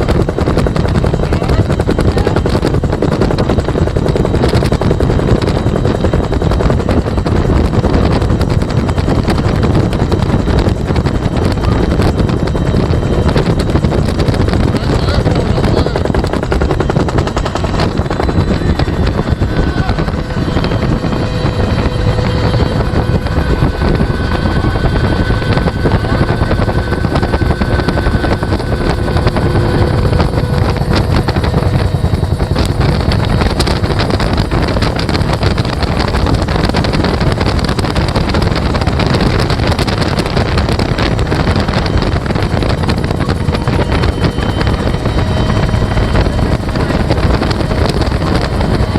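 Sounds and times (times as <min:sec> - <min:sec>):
helicopter rotor thumping: 0:00.0 - 0:48.9
turbine engine and airflow rush: 0:00.0 - 0:48.9.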